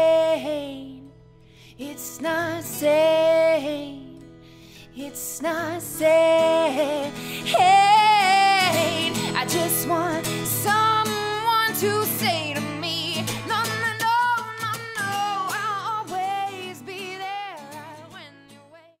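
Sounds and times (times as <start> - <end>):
pop song with sung vocals: 0.0 - 19.0.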